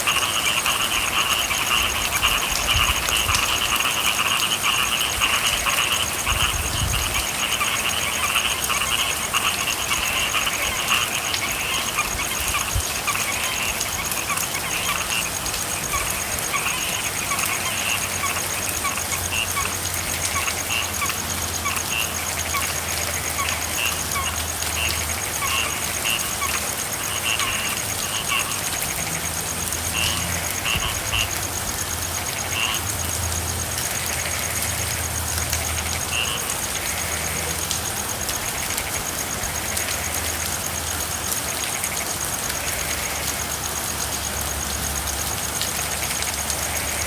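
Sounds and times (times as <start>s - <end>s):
frogs calling: 0.0s - 47.0s
rain falling: 0.0s - 47.0s.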